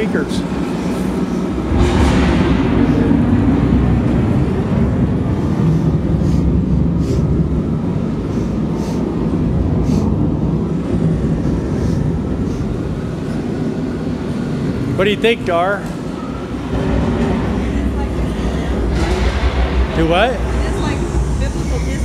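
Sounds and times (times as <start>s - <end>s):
deep rumble through speakers: 0.0s - 22.0s.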